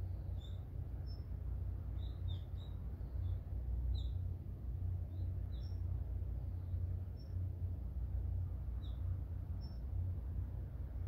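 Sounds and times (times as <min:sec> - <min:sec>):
small birds chirping: 0:00.0 - 0:10.2
steady low rumble: 0:00.0 - 0:11.0.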